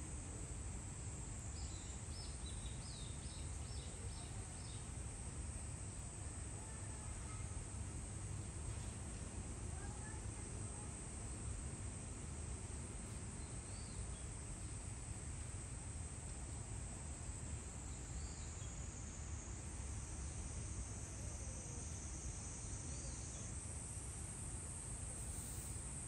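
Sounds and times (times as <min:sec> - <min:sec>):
room hiss and low rumble: 0:00.0 - 0:26.0.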